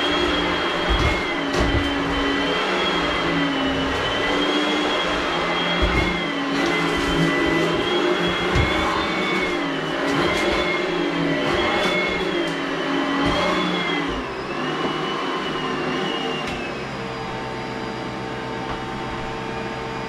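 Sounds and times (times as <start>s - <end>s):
vacuum cleaner on carpet: 0.0s - 20.0s.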